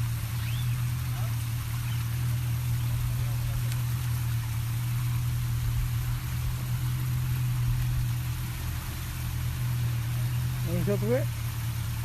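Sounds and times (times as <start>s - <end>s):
boat engine humming: 0.0s - 12.0s
wind and water hiss: 0.0s - 12.0s.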